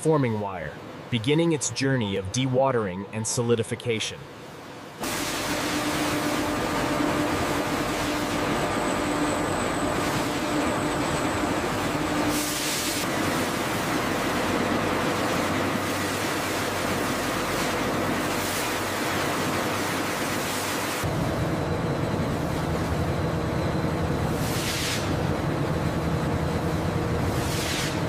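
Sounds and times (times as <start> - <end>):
paper machine humming: 5.0 - 28.0.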